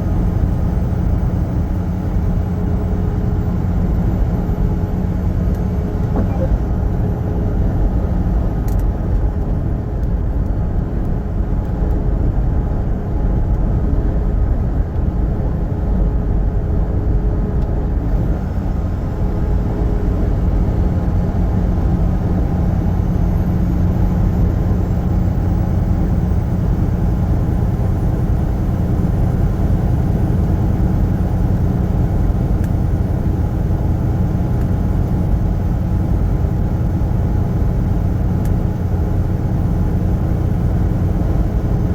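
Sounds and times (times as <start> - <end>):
road noise: 0.0 - 41.9
truck engine rumble: 0.0 - 41.9.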